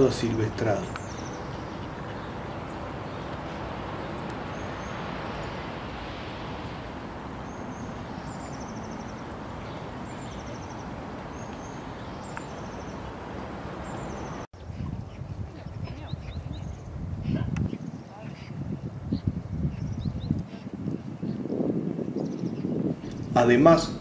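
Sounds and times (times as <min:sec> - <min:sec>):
songbird trilling: 0:00.0 - 0:05.7, 0:07.4 - 0:21.5
outdoor background rush: 0:00.0 - 0:24.0.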